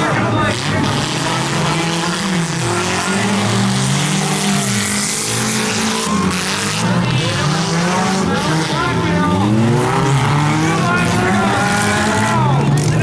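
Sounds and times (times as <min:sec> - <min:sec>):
car engines racing: 0:00.0 - 0:13.0.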